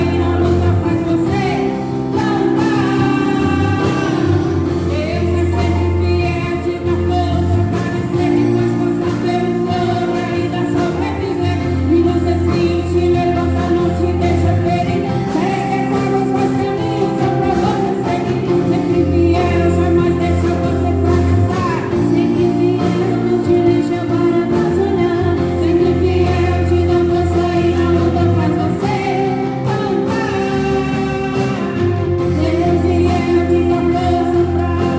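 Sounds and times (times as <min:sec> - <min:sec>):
group singing praise song: 0:00.0 - 0:34.9
instrumental backing: 0:00.0 - 0:34.9.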